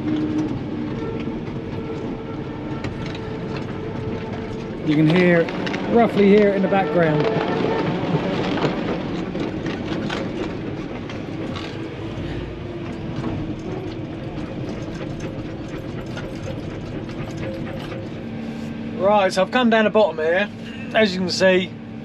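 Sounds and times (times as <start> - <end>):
clatter of tracks: 0.0 - 22.0
excavator engine running: 0.0 - 22.0.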